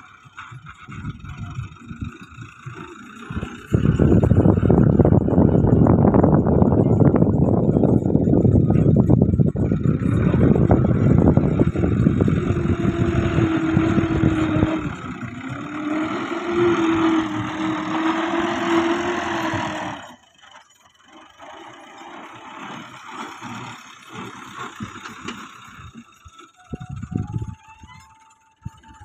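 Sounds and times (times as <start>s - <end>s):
steady whine: 0.0s - 29.0s
tractor diesel engine under load: 0.0s - 29.0s.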